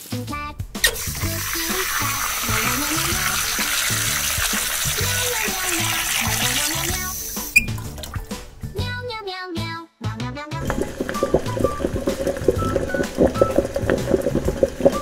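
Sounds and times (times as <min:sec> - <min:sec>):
background music: 0:00.0 - 0:15.0
tap water running into saucepan: 0:00.6 - 0:08.6, 0:10.6 - 0:15.0.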